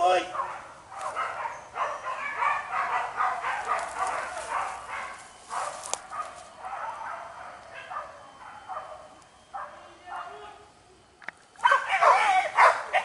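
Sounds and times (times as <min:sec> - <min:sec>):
dogs barking and yelping: 0:00.2 - 0:10.4, 0:11.6 - 0:13.0.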